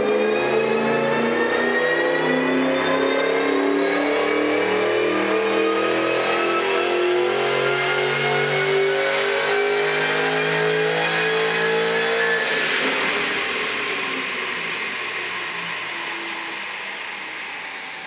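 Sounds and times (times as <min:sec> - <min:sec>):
car engine at full throttle: 0:00.0 - 0:18.0.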